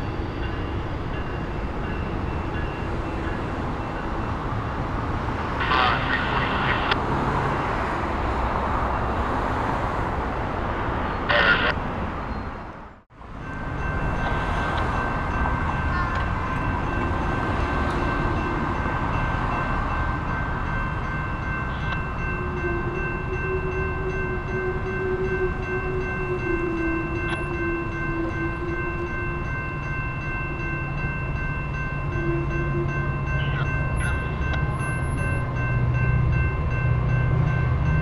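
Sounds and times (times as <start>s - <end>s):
diesel train rumbling: 0.0s - 38.0s
railroad crossing bells ringing: 0.0s - 38.0s.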